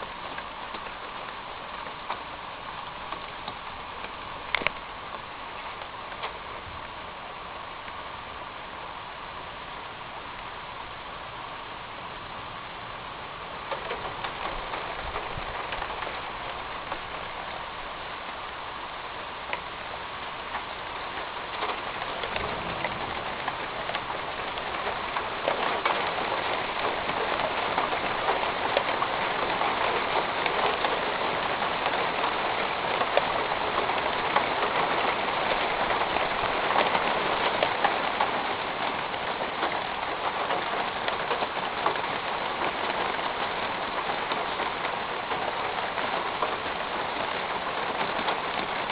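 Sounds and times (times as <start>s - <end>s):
rain on a metal roof: 0.0s - 48.9s.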